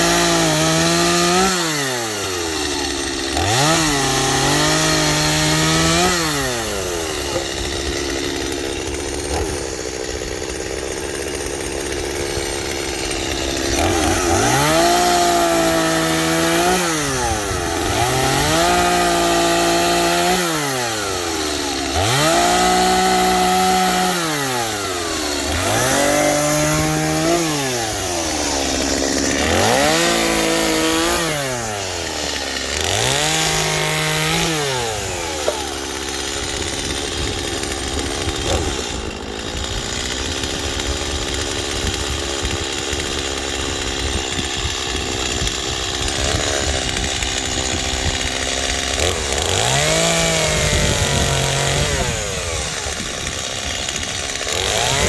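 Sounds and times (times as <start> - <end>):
chainsaw revving and cutting wood: 0.0 - 55.0.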